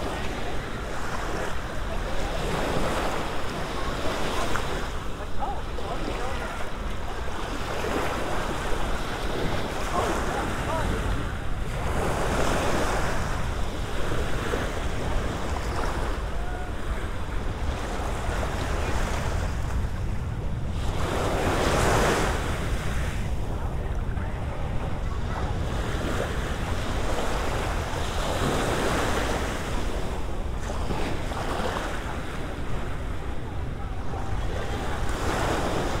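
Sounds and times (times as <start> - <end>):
small waves washing onto beach: 0.0 - 36.0
wind rumble on microphone: 0.0 - 36.0.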